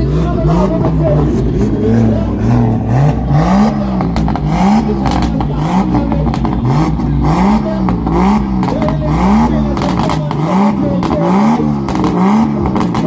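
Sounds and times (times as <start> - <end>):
car engine revving: 0.0 - 13.0
exhaust crackles: 0.0 - 13.0.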